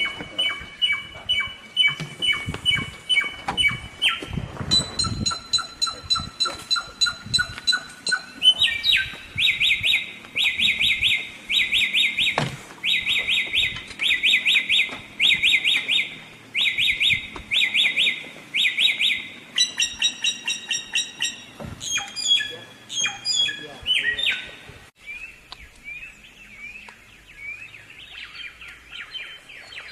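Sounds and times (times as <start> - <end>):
bird chirping: 0.0 - 29.9
songbird whistling song: 0.0 - 29.9.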